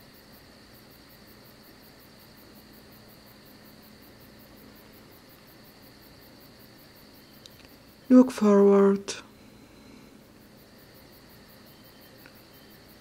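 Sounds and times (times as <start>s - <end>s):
soft hiss: 0.0s - 13.0s.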